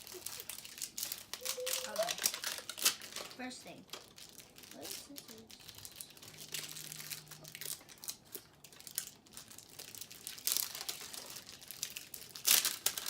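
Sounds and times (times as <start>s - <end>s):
plastic packaging crinkling and tearing: 0.0s - 13.0s.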